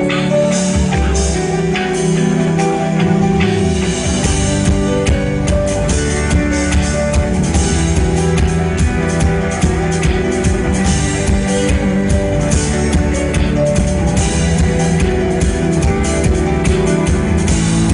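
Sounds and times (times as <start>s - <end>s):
live pop band music: 0.0s - 17.9s.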